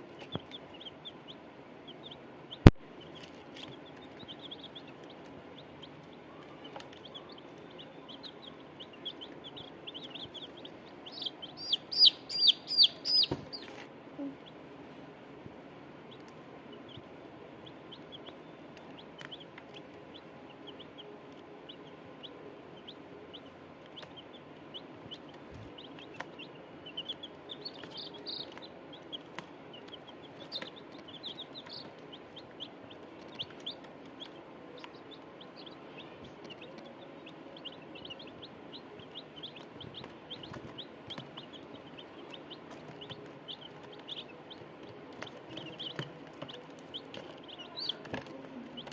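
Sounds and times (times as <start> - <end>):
hen clucking: 0.0 - 14.7, 16.1 - 48.9
chicks peeping: 0.0 - 48.9.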